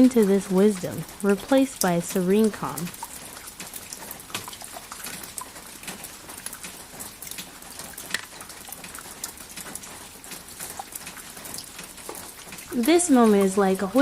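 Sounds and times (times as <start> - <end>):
rain drops pattering: 0.0 - 14.0.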